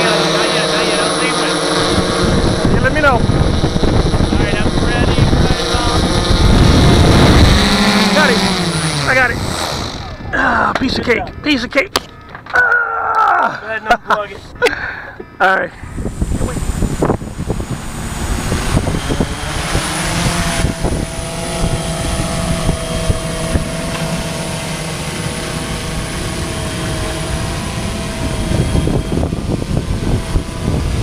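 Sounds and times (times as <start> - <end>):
rush of propeller wash: 0.0 - 10.3, 15.9 - 31.0
drone motors buzzing: 0.0 - 13.3, 14.4 - 31.0.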